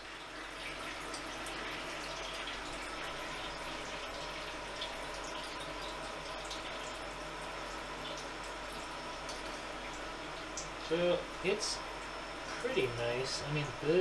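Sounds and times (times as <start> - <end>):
coolant trickling and dripping: 0.0 - 14.0.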